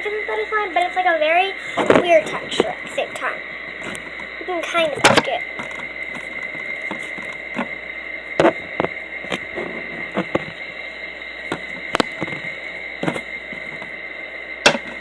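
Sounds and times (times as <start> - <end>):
faint high-pitched hum: 0.0 - 15.0.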